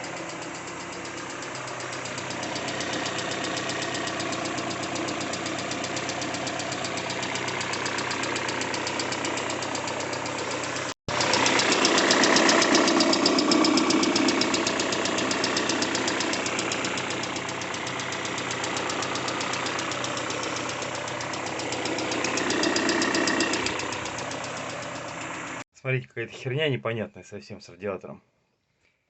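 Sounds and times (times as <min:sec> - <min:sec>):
car engine knocking: 0:00.0 - 0:25.6.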